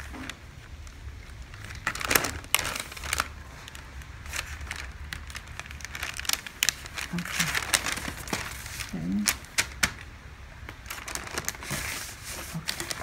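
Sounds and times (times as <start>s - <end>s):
paper rustling and crinkling: 0.0s - 10.1s, 10.7s - 13.0s.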